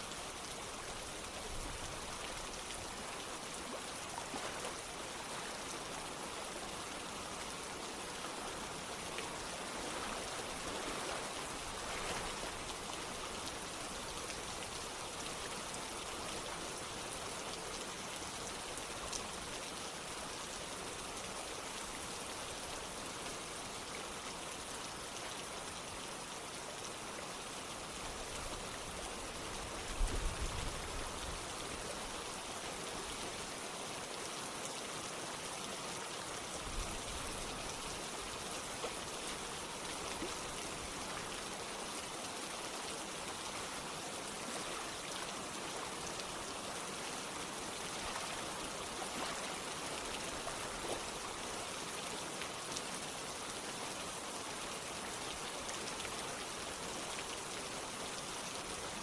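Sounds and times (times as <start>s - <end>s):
running water: 0.0s - 24.2s, 25.0s - 59.0s
steady rain: 0.0s - 59.0s.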